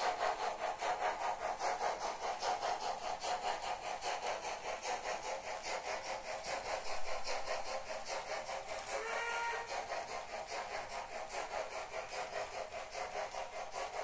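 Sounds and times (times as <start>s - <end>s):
model train running rhythmically: 0.0s - 14.0s.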